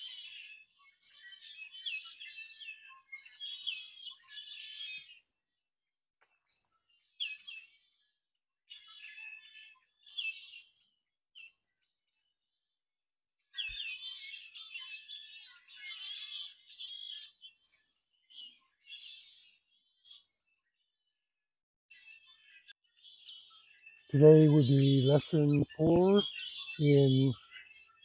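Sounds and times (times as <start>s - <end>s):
songbirds chirping and twittering: 0.0s - 28.0s.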